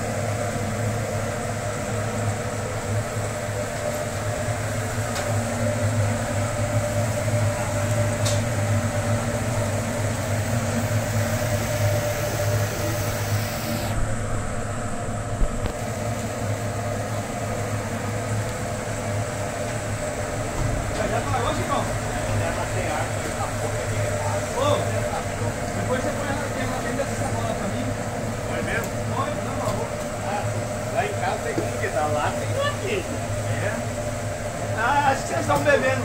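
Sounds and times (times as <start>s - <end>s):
mechanical drone with hiss: 0.0s - 36.0s.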